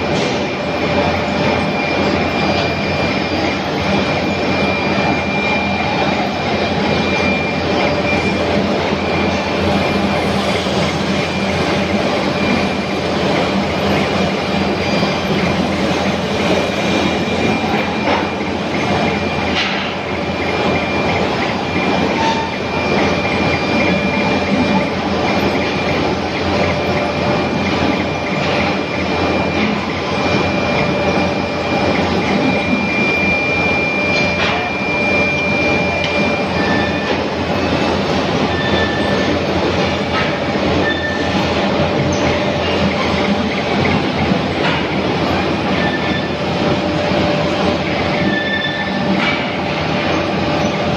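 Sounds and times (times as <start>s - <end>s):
high steady whine: 0.0s - 50.9s.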